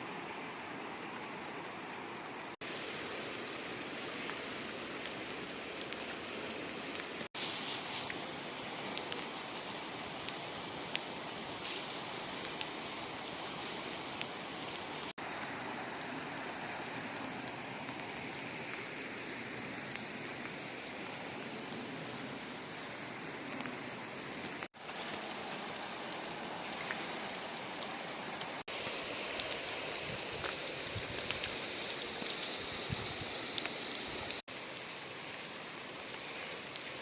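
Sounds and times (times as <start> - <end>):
running water: 0.0 - 37.0.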